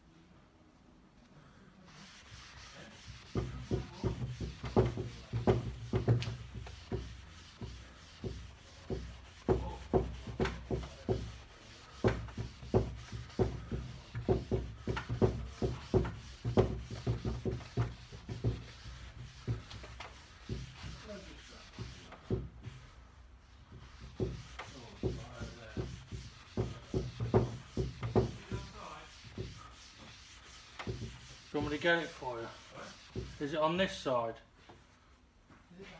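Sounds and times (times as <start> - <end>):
pad rubbing on wooden tabletop: 1.9 - 33.6.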